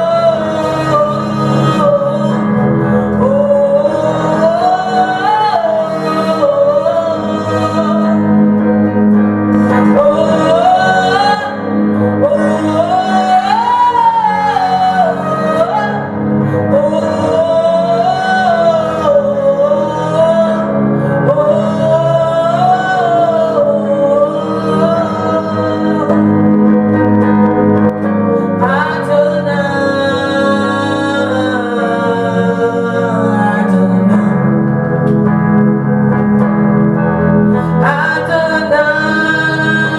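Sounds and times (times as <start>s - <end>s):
instrumental accompaniment: 0.0s - 39.9s
person singing gospel melody: 0.0s - 39.9s.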